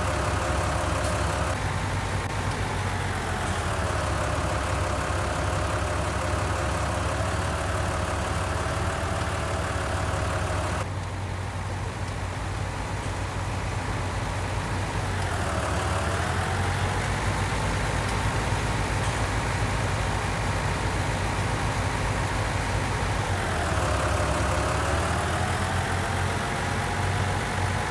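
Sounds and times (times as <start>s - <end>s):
engine whine: 0.0s - 27.9s
tractor engine hum: 0.0s - 27.9s.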